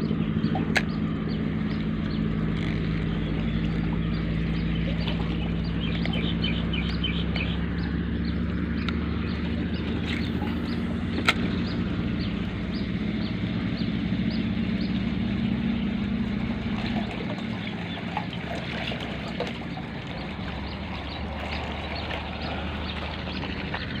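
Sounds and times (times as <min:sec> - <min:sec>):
low engine hum: 0:00.0 - 0:24.0
running water: 0:00.0 - 0:24.0.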